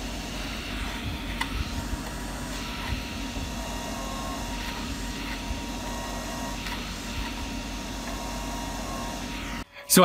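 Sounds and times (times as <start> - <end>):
small cooling fan whirring: 0.0 - 10.0.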